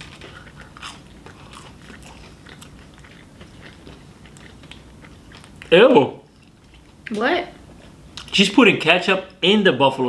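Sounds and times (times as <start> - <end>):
chewing food: 0.0 - 8.4.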